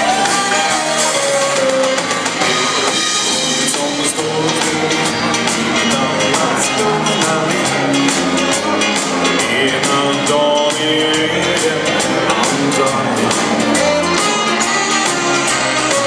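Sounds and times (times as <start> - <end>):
live band music: 0.0 - 16.0
steady drum beat: 0.0 - 16.0.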